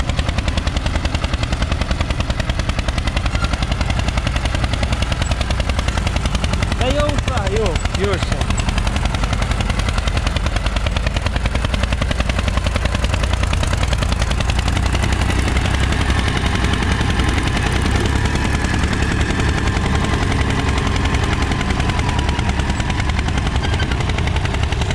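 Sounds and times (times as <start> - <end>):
tractor diesel engine under load: 0.0 - 24.9.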